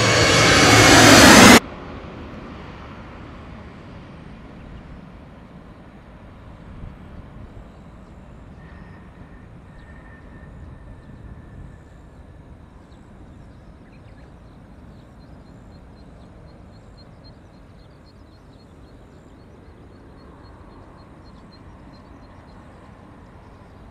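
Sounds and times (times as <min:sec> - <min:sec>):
distant jet engine rumble: 0:00.0 - 0:23.9
faint high engine whine: 0:00.0 - 0:23.9.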